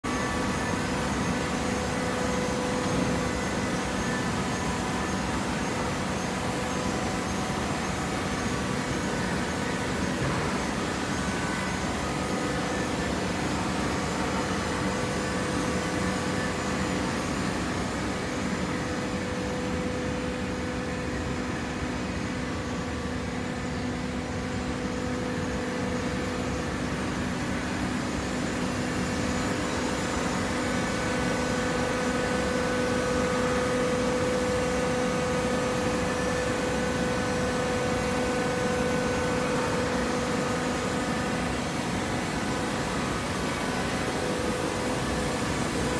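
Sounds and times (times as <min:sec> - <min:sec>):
machine humming: 0:00.0 - 0:45.9.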